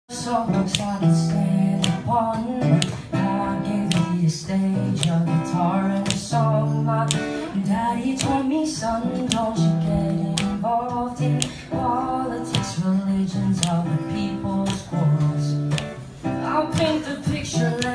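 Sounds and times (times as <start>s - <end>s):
acoustic guitar strumming: 0.1s - 17.9s
man singing: 0.1s - 17.9s.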